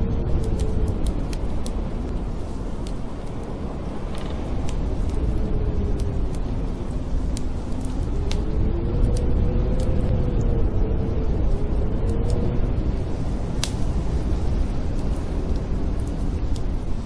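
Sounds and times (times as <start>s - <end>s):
snowstorm wind howling: 0.0s - 17.0s
wood fire crackling and popping: 0.3s - 10.2s, 12.1s - 17.0s.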